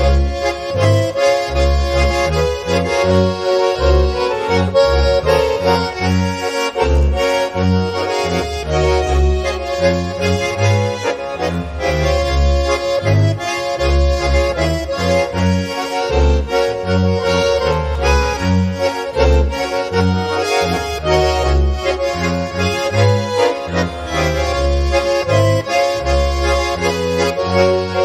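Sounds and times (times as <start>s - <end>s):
accordions playing polka: 0.0s - 28.0s
double bass: 0.0s - 28.0s.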